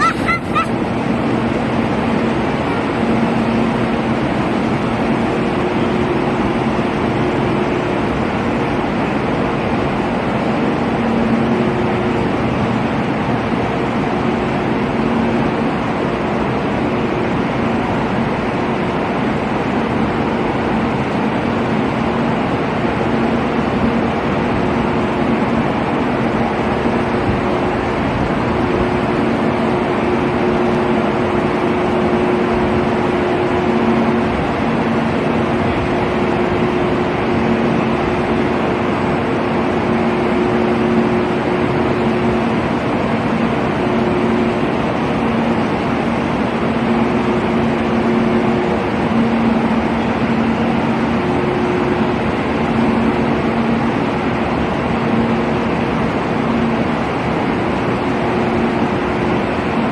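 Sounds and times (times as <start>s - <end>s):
train running noise from inside: 0.0s - 59.9s.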